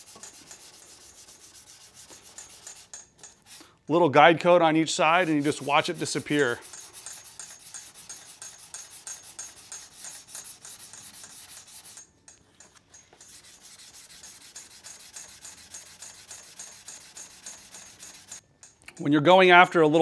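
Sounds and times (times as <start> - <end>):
sandpaper rubbing back and forth: 0.0 - 3.7, 4.9 - 12.0, 12.8 - 18.4.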